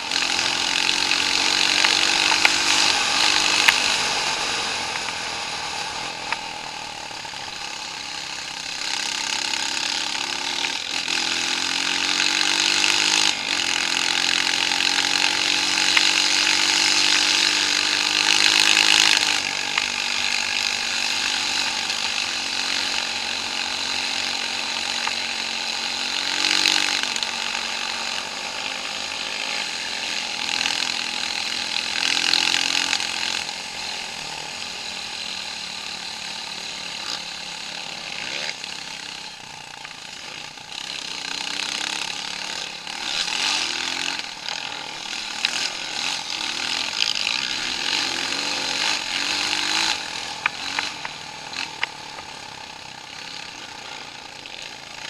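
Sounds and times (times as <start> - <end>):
engine and trail hiss: 0.0 - 55.0
off-road vehicle engine: 0.0 - 55.0.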